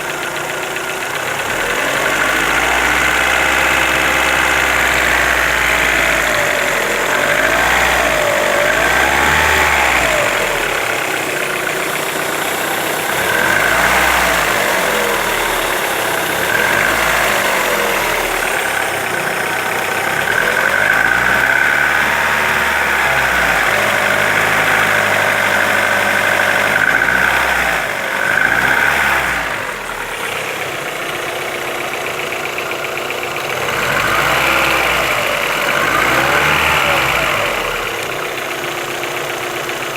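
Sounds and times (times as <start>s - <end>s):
car engine revving: 0.0s - 39.9s
engine knock: 0.0s - 39.9s.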